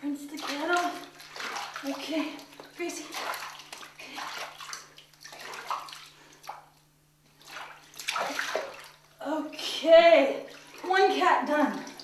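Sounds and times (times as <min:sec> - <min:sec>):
water splashing in a bathtub: 0:00.0 - 0:12.0.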